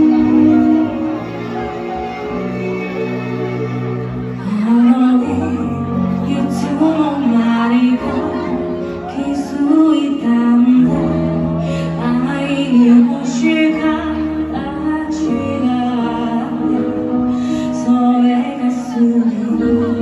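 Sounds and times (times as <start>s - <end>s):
slow song with female vocal: 0.0s - 1.5s, 4.4s - 20.0s.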